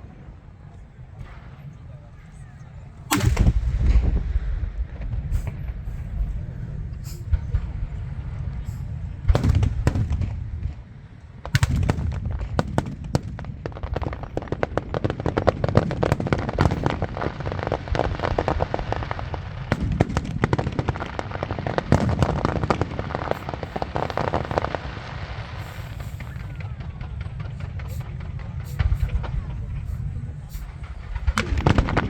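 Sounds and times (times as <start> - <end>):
fireworks low booms: 0.0 - 32.0
fireworks crackling pops: 3.0 - 32.0.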